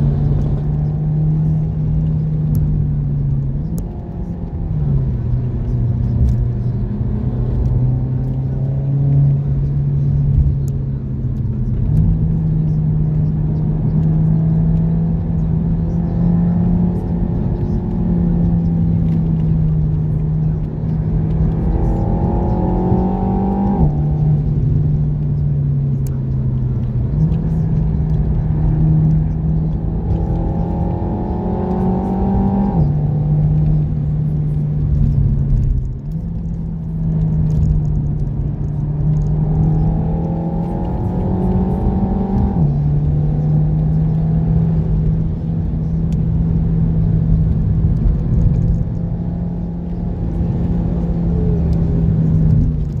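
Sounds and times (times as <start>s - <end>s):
car engine accelerating through gears: 0.0s - 53.0s
tyre and road noise: 0.0s - 53.0s.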